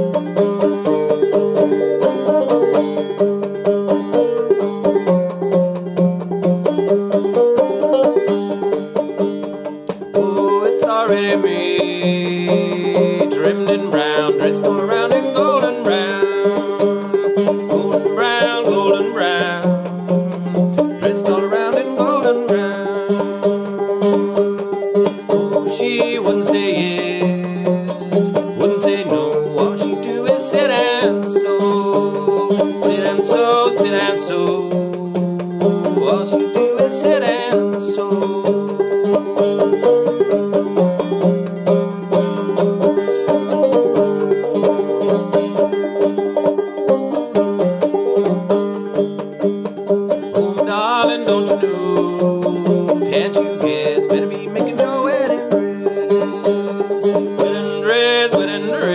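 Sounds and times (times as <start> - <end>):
banjo playing: 0.0 - 58.9.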